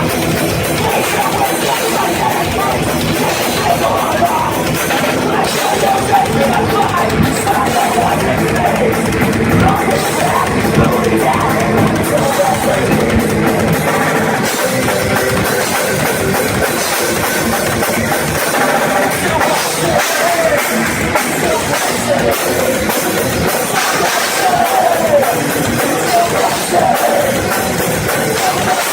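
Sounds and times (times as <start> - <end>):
pounding drum kit: 0.0 - 28.9
rock band playing live: 0.0 - 28.9.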